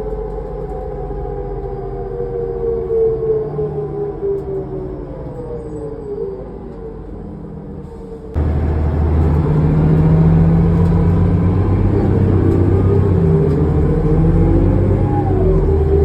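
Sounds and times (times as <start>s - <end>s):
bus drivetrain droning: 0.0s - 16.0s
drivetrain whining howl: 0.0s - 16.0s.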